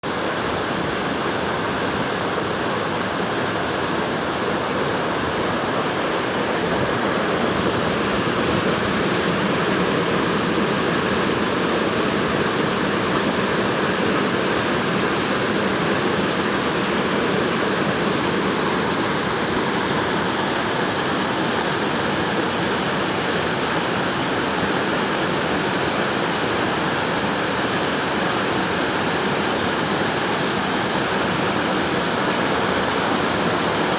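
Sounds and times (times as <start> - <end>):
rushing water: 0.0 - 33.9.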